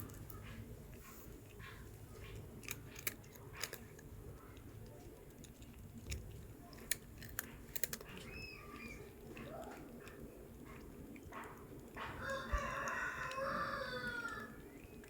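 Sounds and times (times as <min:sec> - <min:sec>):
cat chewing crunchy snack: 0:00.0 - 0:15.0.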